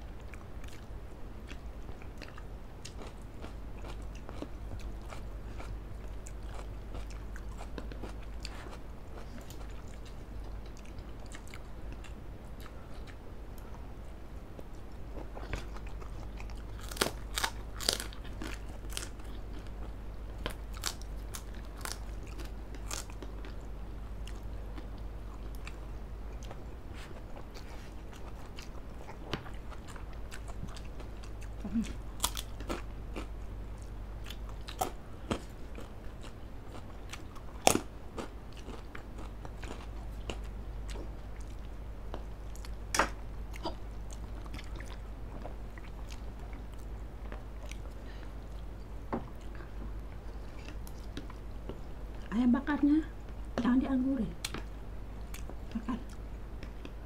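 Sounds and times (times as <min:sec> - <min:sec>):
chewing and biting: 0:00.2 - 0:13.8, 0:14.6 - 0:48.7.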